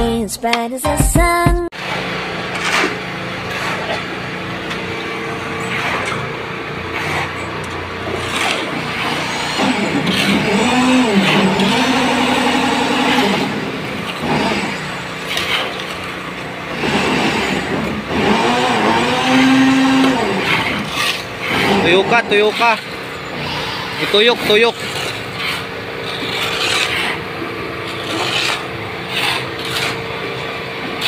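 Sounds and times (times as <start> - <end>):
engine running: 1.7 - 31.0.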